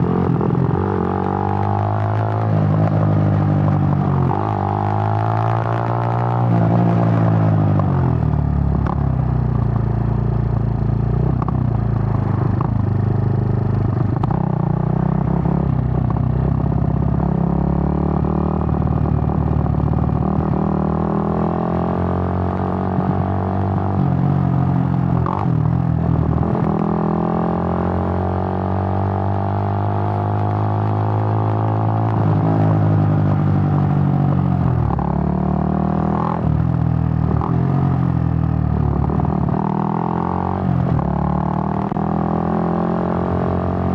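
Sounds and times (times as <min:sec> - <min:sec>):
motorcycle engine shifting gears: 0:00.0 - 0:43.9.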